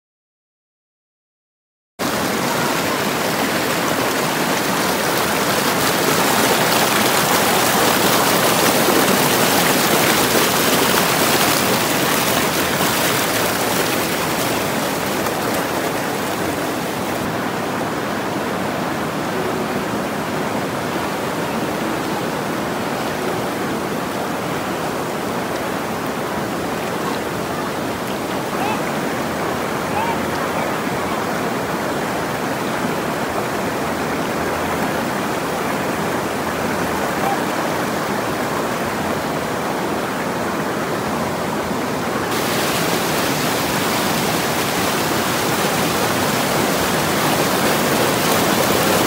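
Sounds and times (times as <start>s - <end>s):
river rushing over boulders: 2.0s - 49.0s.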